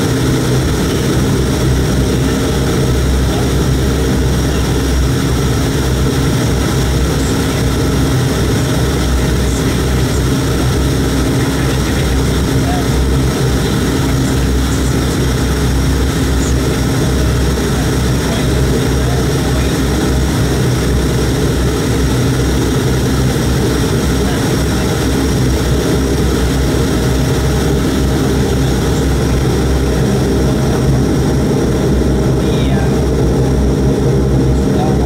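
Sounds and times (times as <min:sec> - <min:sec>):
turboprop engine droning in cabin: 0:00.0 - 0:35.0.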